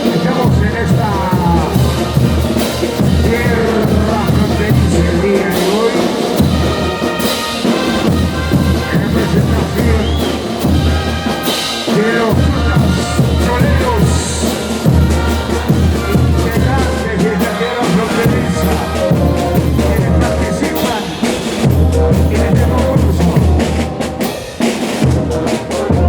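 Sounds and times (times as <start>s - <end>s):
bass drum beat: 0.0s - 24.0s
brass band playing dance tune: 0.0s - 26.0s.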